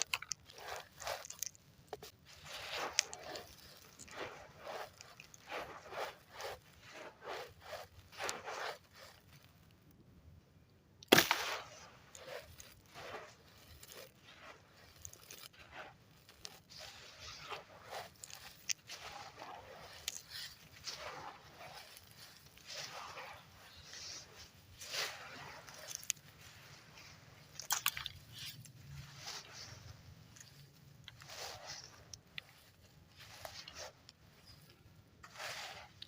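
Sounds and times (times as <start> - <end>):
wet cement chunks crunching: 0.0 - 9.8, 11.0 - 34.6.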